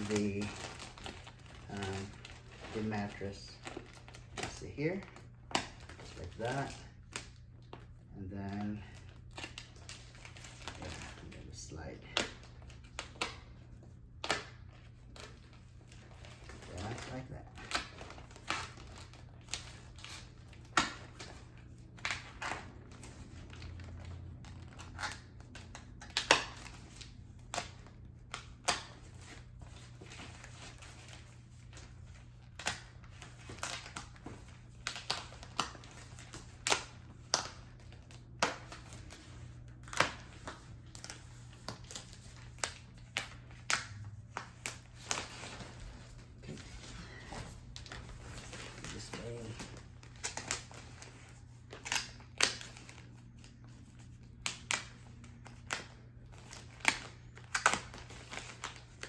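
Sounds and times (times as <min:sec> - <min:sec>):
plastic wrapping crinkling: 0:00.0 - 0:59.0.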